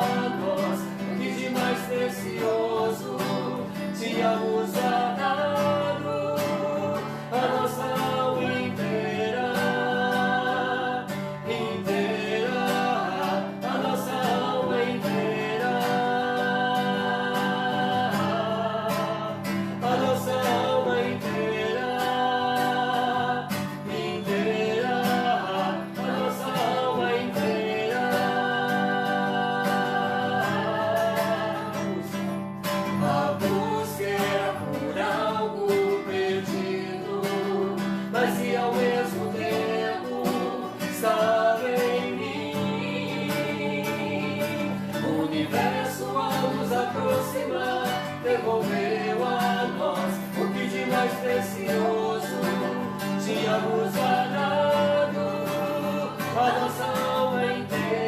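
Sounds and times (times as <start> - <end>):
people singing: 0.0 - 58.0
plucked guitar: 0.0 - 58.0.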